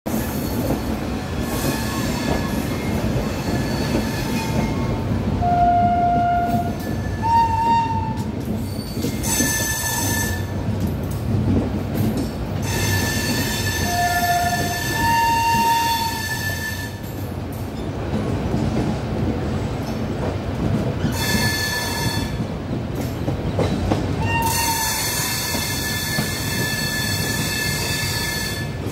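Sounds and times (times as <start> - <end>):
train wheels rumbling on rails: 0.1 - 28.9.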